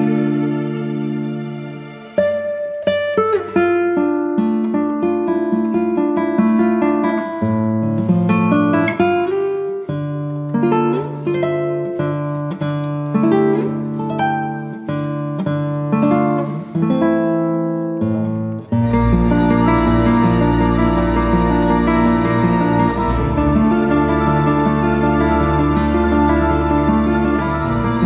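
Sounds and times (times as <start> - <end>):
plucked string melody: 0.0 - 28.0.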